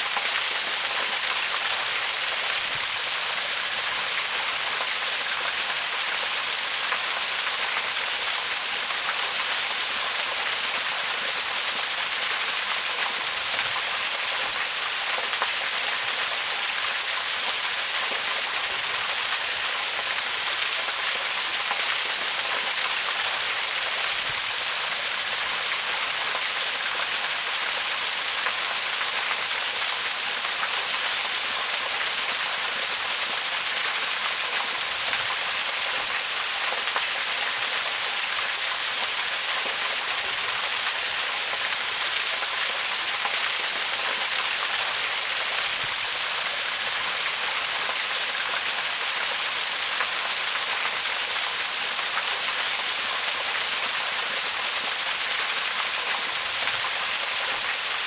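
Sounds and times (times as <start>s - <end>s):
waterfall hiss: 0.0s - 58.0s.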